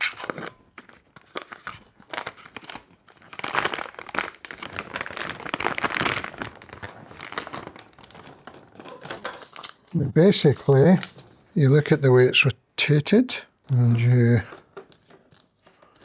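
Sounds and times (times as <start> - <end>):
plastic wrapping crinkling: 0.0 - 12.0, 13.5 - 16.0.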